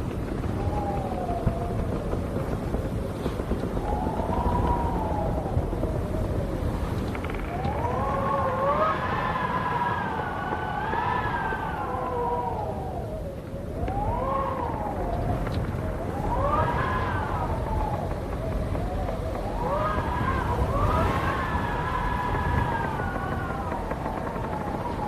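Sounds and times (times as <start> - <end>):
wind howling: 0.0 - 25.0.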